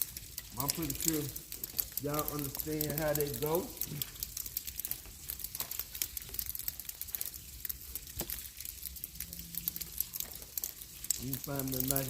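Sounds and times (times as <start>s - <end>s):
rain pattering: 0.0s - 12.0s
wood fire crackling: 0.0s - 12.0s.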